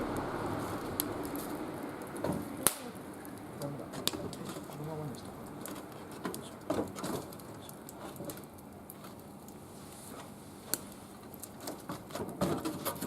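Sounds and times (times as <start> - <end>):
sharp pops from fire: 0.0 - 13.0
wood fire crackling: 0.0 - 13.0.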